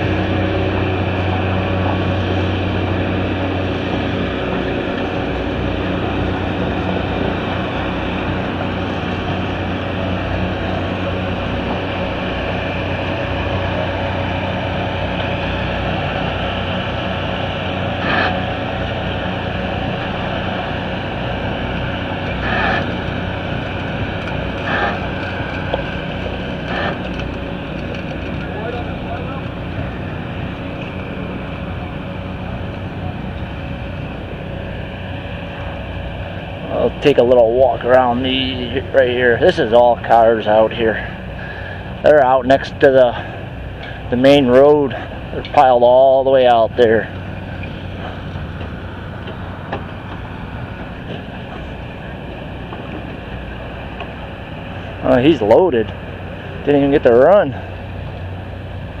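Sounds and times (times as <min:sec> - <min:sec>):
engine running: 0:00.0 - 0:59.0
rumbling background noise: 0:00.0 - 0:59.0.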